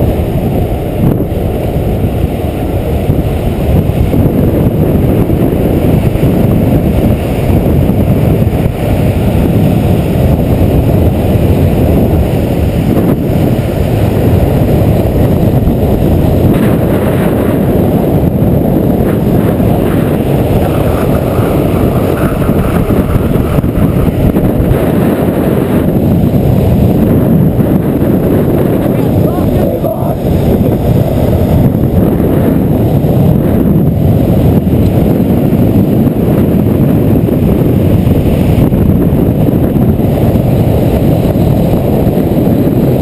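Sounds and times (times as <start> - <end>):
longboard wheels rolling on asphalt: 0.0 - 43.0
wind rushing over microphone: 0.0 - 43.0.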